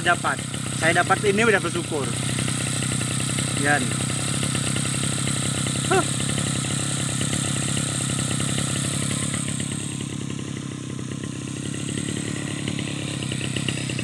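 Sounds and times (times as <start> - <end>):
small two-stroke engine idling: 0.0 - 14.0.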